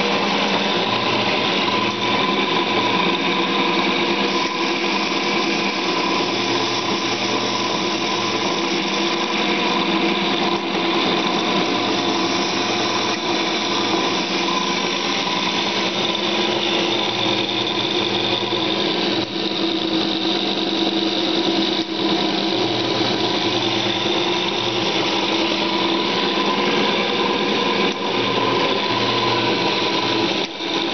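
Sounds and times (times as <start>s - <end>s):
machine tool humming: 0.0s - 30.9s.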